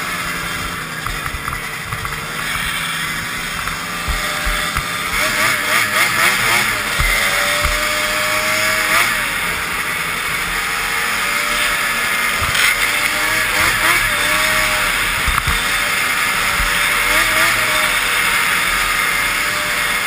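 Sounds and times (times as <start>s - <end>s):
snowmobile engine running hard: 0.0s - 20.0s.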